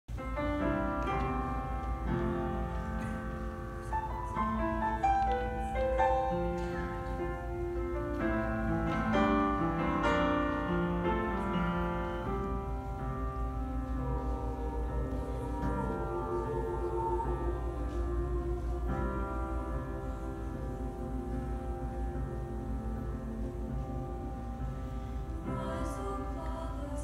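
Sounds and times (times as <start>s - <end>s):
upright piano playing: 0.1s - 27.0s.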